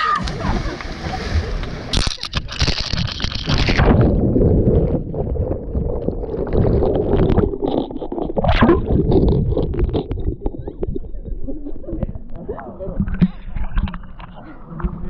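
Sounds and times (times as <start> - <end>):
muffled water sloshing: 0.0 - 15.0.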